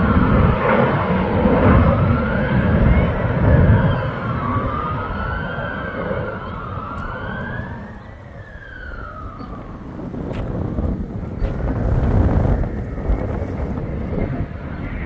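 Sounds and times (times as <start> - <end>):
jet flying over: 0.0 - 15.0.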